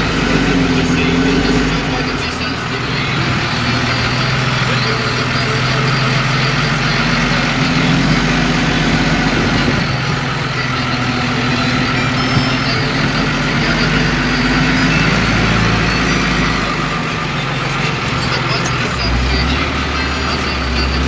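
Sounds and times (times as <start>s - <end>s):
machinery engine running: 0.0s - 21.0s.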